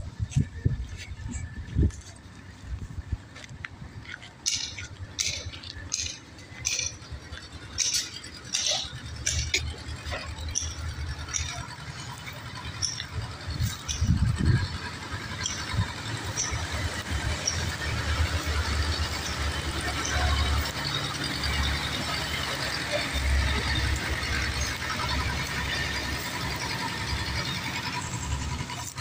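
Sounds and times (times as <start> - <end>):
low steady rumble: 0.0 - 29.0
light sharp clinks and rattles: 3.4 - 29.0.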